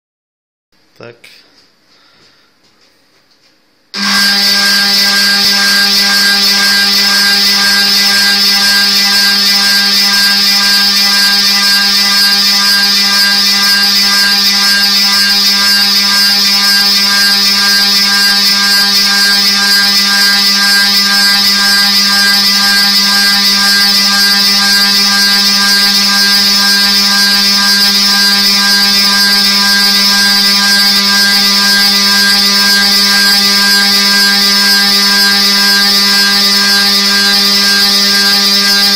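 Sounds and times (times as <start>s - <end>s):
drive motors whining: 4.0s - 38.9s.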